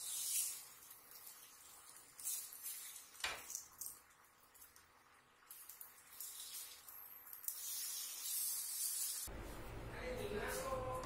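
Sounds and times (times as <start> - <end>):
banana frying sizzle: 0.0 - 9.4.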